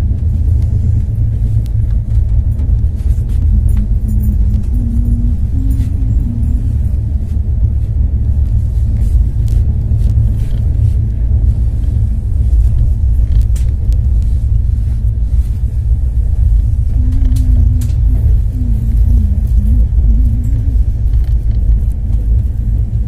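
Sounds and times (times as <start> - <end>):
vehicle rumbling: 0.0 - 23.0.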